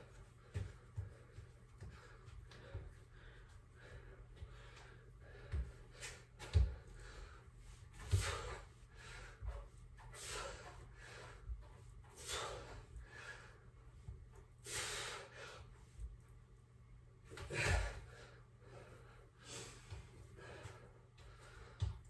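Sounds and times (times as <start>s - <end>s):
man breathing hard: 0.0s - 15.9s, 17.4s - 22.0s.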